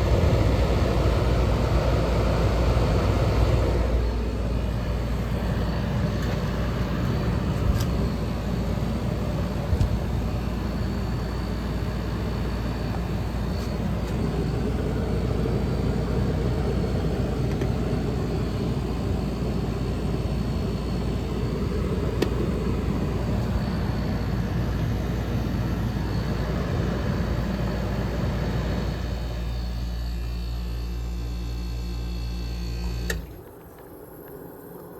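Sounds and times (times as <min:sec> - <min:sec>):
air conditioner fan rushing: 0:00.0 - 0:34.9
steady humming tone: 0:00.0 - 0:34.9.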